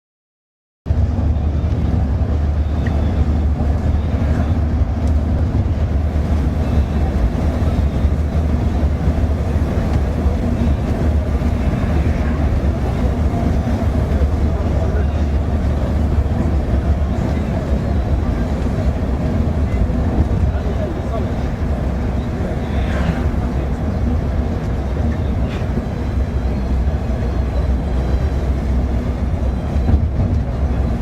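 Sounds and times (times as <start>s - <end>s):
moving vehicle rumble: 0.9s - 31.0s.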